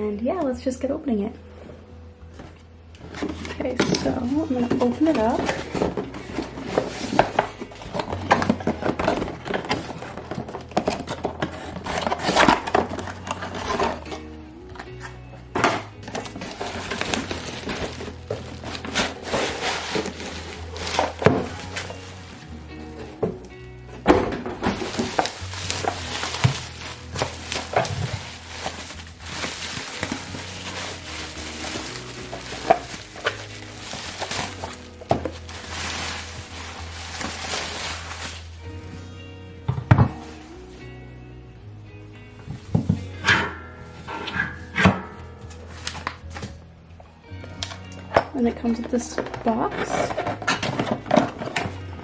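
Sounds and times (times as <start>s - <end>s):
soft background music: 0.0s - 52.0s
box packaging being opened: 2.4s - 38.6s, 44.0s - 46.6s, 47.6s - 52.0s.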